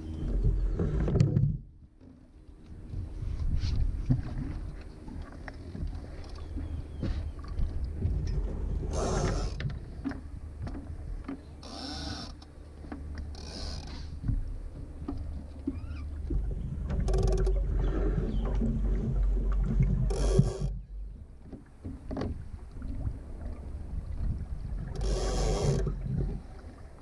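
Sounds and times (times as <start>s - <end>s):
boat fittings knocking and creaking: 0.0s - 3.1s, 3.8s - 26.9s
water splashing against hull: 0.0s - 27.0s
wind rumble on microphone: 0.0s - 27.0s.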